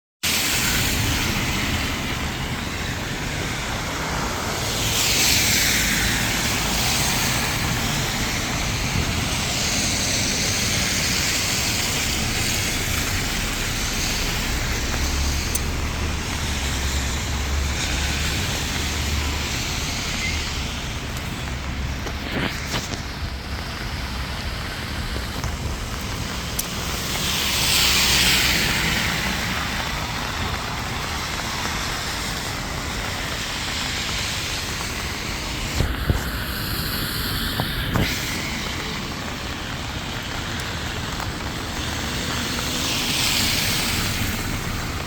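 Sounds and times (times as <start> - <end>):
tyres hissing on wet road: 0.2 - 45.0
heavy rain falling: 0.3 - 45.0.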